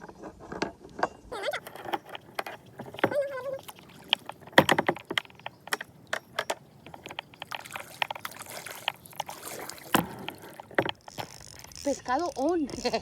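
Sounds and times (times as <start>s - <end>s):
fishing tackle clicks and knocks: 0.6s - 13.0s
faint water sounds: 1.3s - 13.0s.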